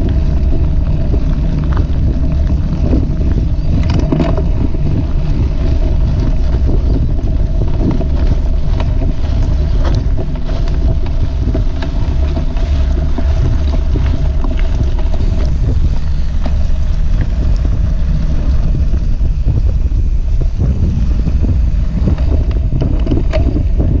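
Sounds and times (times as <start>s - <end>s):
bike tyres rumbling on dirt: 0.0s - 24.0s
steady hum: 0.0s - 24.0s
ticks and crackles from ground: 0.0s - 24.0s
wind buffeting microphone: 0.0s - 24.0s.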